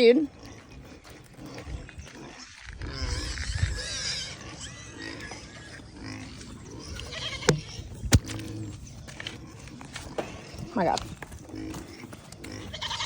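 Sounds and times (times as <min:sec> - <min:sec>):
farm animal squealing: 0:00.0 - 0:13.0.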